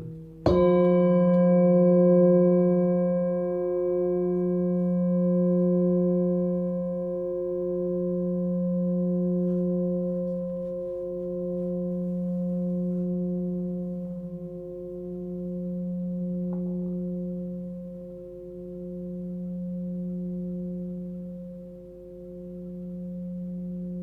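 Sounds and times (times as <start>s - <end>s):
singing bowl ringing: 0.0s - 24.0s.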